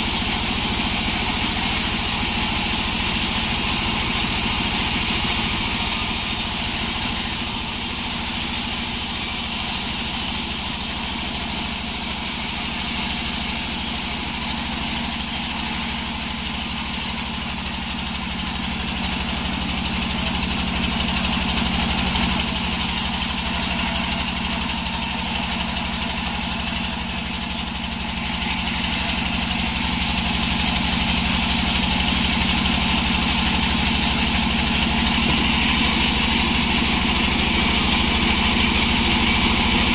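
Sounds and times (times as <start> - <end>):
sawmill engine hum: 0.0 - 39.9.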